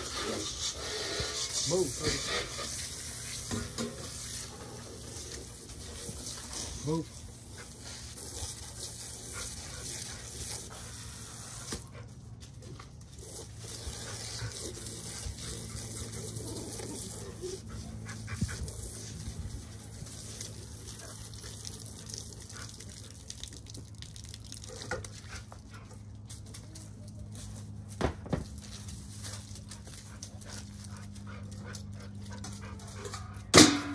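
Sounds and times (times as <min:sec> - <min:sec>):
dogs panting: 0:00.0 - 0:23.4, 0:28.9 - 0:33.5.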